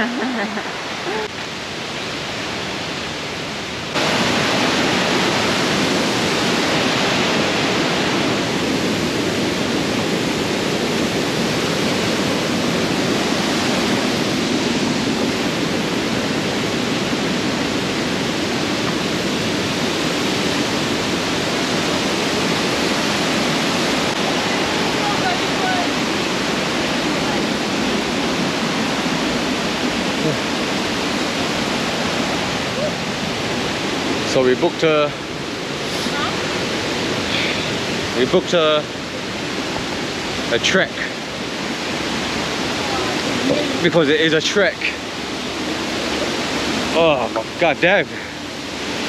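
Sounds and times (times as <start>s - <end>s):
water rushing: 0.0s - 49.0s.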